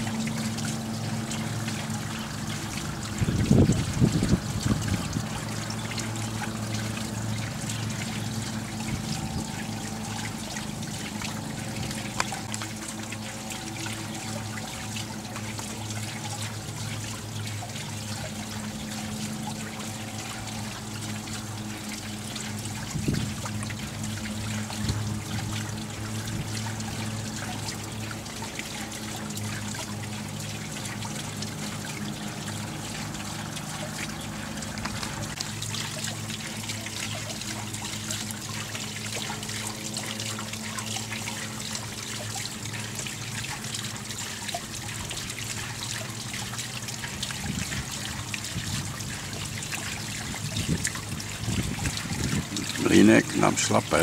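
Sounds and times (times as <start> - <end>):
low hum: 0.0 - 54.0
water trickling into pond: 0.0 - 54.0.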